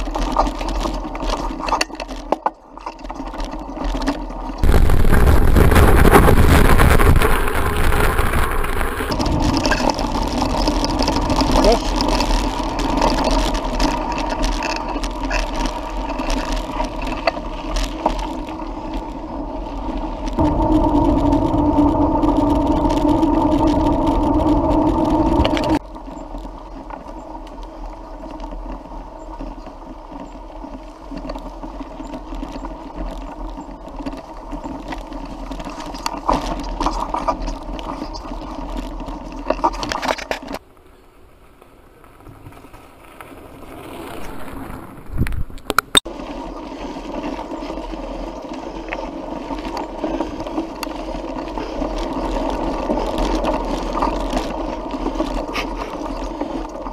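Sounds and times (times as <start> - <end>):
bike rattling on dirt trail: 0.0 - 56.9
bike tyre hum on tarmac: 0.0 - 56.9.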